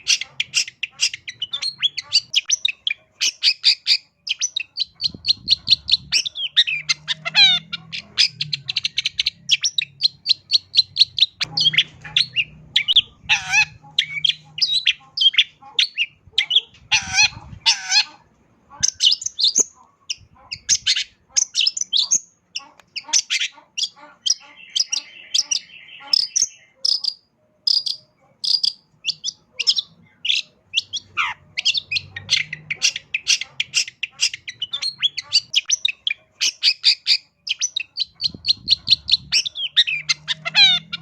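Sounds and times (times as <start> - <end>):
bird singing chirps and trills: 0.0 - 18.1, 18.8 - 41.0.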